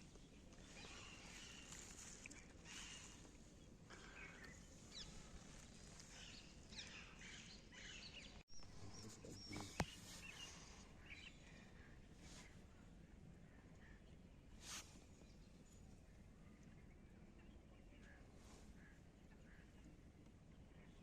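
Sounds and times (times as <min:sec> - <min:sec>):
faint bird chirps: 0:00.0 - 0:21.0
low outdoor background noise: 0:00.0 - 0:21.0.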